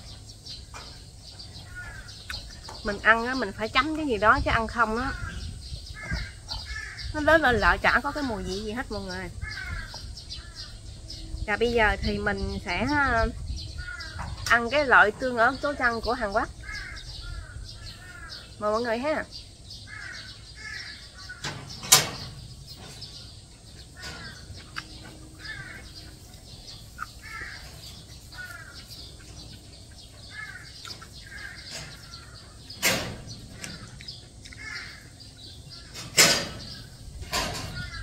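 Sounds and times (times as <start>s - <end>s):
birds giving short calls: 0.0s - 38.0s.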